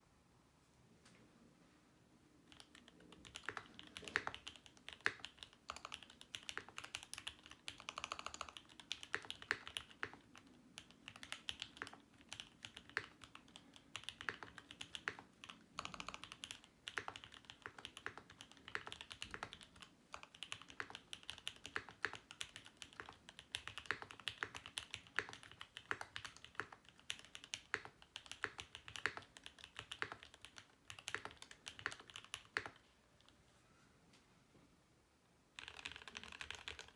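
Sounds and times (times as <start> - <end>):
mechanical keyboard typing: 2.5 - 32.8, 35.6 - 36.9.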